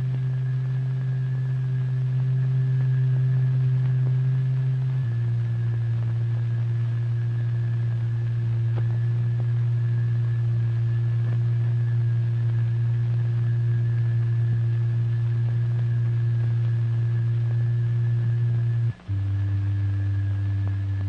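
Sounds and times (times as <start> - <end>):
steady low oscillator tone: 0.0 - 21.0.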